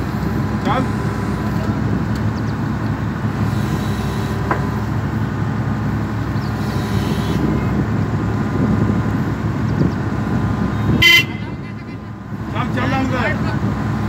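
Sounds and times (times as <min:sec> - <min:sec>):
vibratory pile hammer drone: 0:00.0 - 0:14.0.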